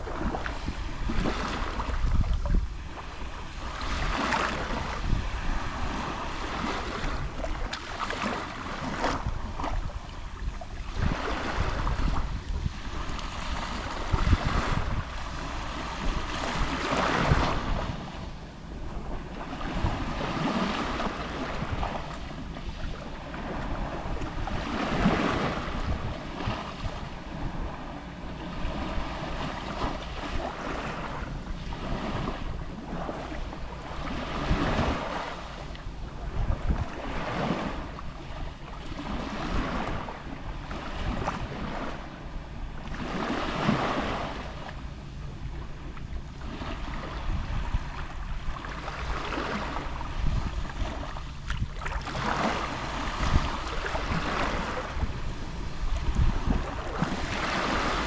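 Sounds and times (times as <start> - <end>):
waves lapping on shore: 0.0 - 58.0
wind rumble on microphone: 0.0 - 58.0.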